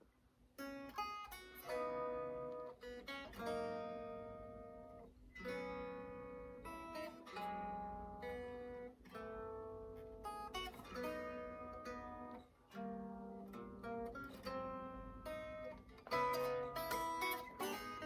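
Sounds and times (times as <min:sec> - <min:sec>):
fingerstyle acoustic guitar: 0:00.6 - 0:18.0.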